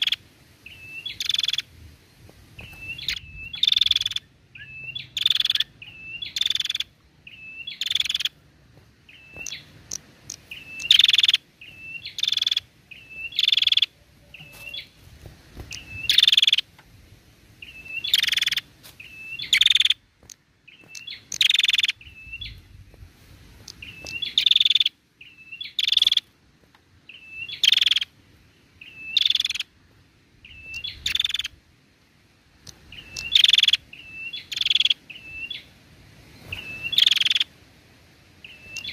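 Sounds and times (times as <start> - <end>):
bird calling: 0.0 - 1.7, 2.6 - 15.0, 15.6 - 16.8, 17.6 - 23.0, 23.6 - 26.4, 27.0 - 29.8, 30.4 - 31.6, 32.7 - 37.6, 38.4 - 38.9.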